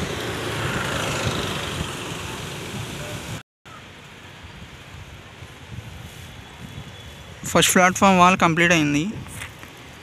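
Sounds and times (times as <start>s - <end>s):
distant road traffic: 0.0s - 10.0s.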